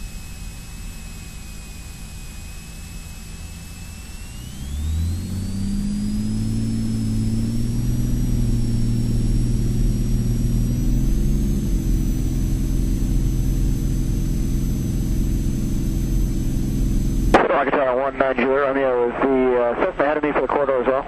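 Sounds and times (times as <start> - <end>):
aircraft engine and propeller: 0.0 - 21.0.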